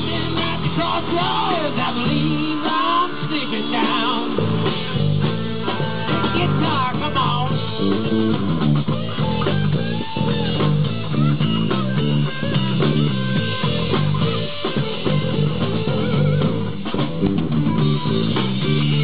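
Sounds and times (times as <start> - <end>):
bass guitar line: 0.0 - 19.0
drum kit: 0.0 - 19.0
electric guitar lead lines: 0.0 - 19.0.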